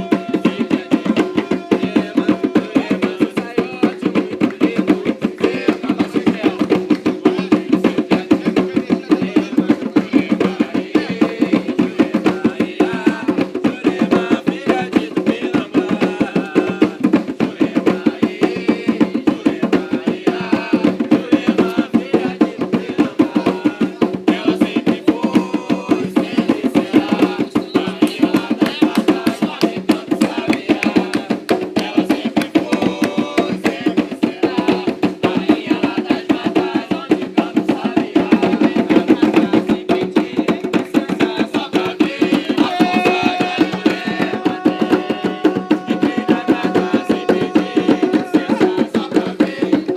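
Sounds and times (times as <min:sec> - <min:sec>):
hand drums playing fast rhythm: 0:00.0 - 0:49.9.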